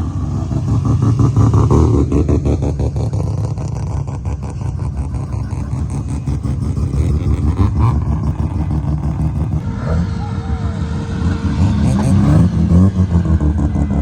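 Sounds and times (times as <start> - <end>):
car engine through loud exhaust: 0.0 - 14.0.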